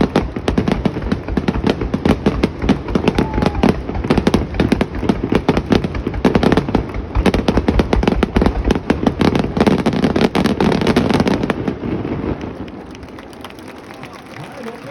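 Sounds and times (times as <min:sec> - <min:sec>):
fireworks bangs and crackles: 0:00.0 - 0:14.9.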